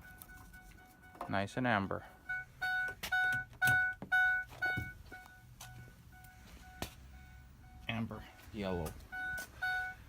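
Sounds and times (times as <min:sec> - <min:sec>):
dashboard warning chime dinging: 0:00.0 - 0:10.0.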